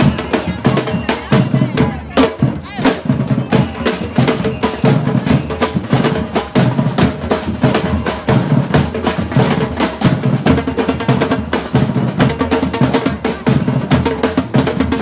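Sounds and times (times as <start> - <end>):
drum ensemble playing: 0.0 - 15.0.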